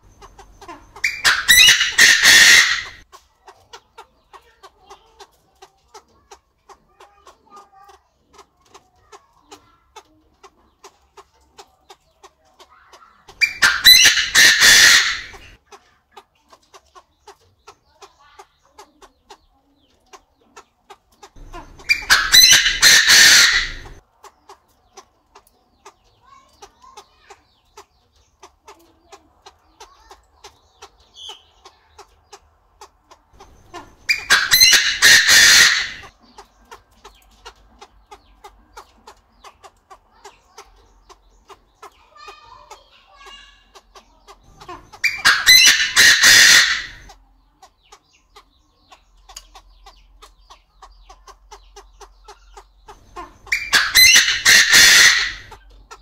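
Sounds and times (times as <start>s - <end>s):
bird harsh calls: 0.0s - 3.1s, 12.0s - 15.6s, 17.2s - 25.1s, 25.7s - 56.0s.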